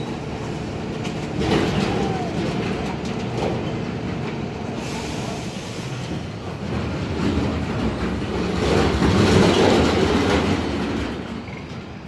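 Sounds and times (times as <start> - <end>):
garbage truck engine under load: 0.0 - 12.0.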